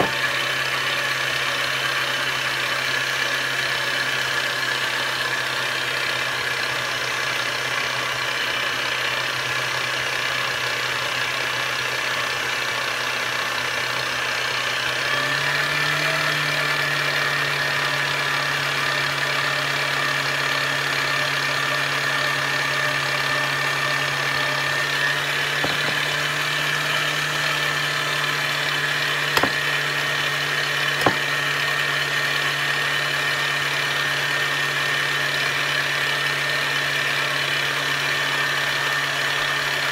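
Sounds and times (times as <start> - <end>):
electric mixer motor whining: 0.0 - 10.4, 13.4 - 39.9.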